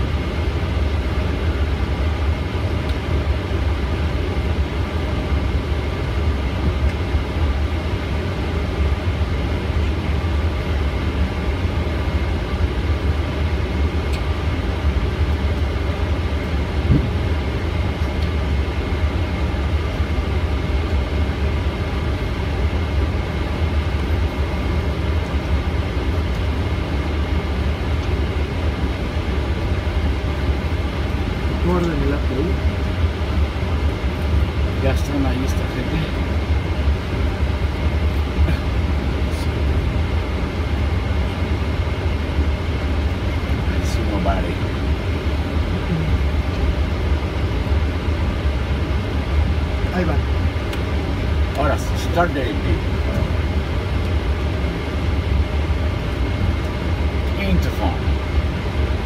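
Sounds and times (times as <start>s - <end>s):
aircraft cabin low rumble: 0.0s - 59.0s
engines idling whine: 0.0s - 59.0s.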